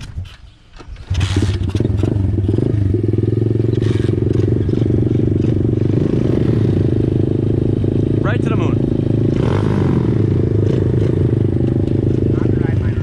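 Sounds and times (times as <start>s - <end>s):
motorbike engine idling: 1.1s - 13.0s.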